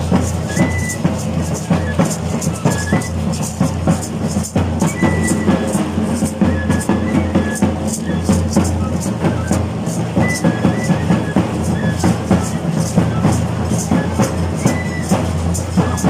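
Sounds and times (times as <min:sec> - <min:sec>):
cane flute high notes: 0:00.0 - 0:16.0
quick steady drum strokes: 0:00.0 - 0:16.0.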